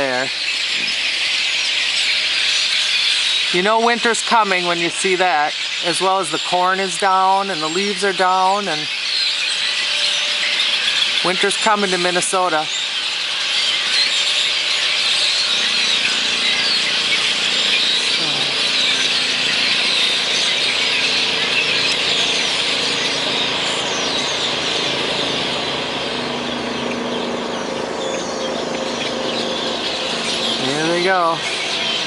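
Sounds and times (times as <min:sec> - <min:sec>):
flock of blackbirds calling: 0:00.0 - 0:32.0.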